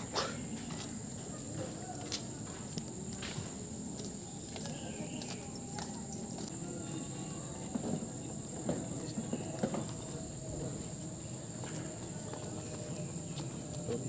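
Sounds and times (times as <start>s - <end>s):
insects buzzing: 2.3s - 14.0s.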